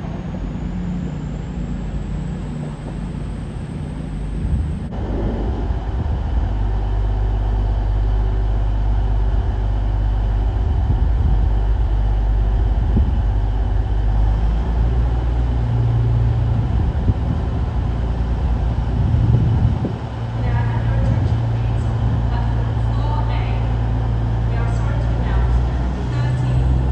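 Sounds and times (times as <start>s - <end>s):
diesel train engine humming: 0.0s - 26.9s.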